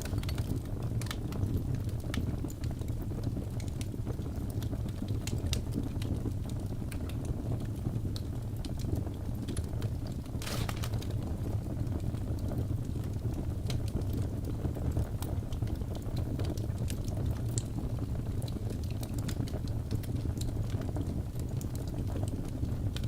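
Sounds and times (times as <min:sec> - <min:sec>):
fire rumbling: 0:00.0 - 0:23.0
logs crackling and popping: 0:00.0 - 0:23.0.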